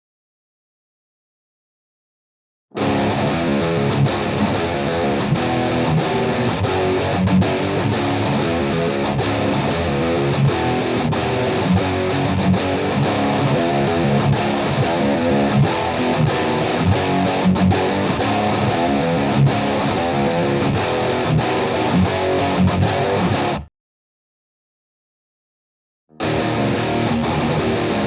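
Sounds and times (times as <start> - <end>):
distorted electric guitar riff: 2.8 - 23.7, 26.1 - 28.0.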